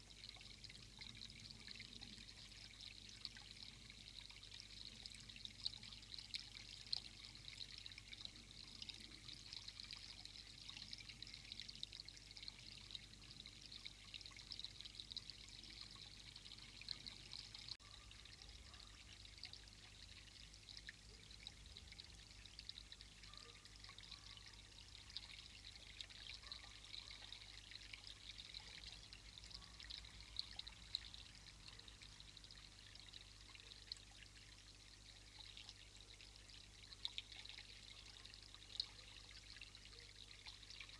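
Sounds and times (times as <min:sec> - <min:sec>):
small ticks: 0:00.0 - 0:34.3
faint running water: 0:00.0 - 0:40.9.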